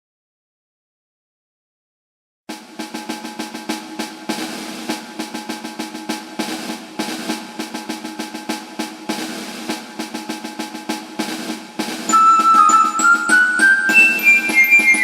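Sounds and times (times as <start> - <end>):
music with quick drum beat: 2.5 - 15.0.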